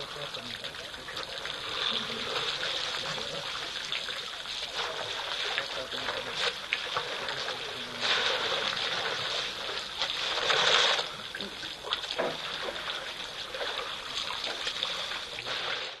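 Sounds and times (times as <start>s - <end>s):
elephants splashing water: 0.0s - 16.0s.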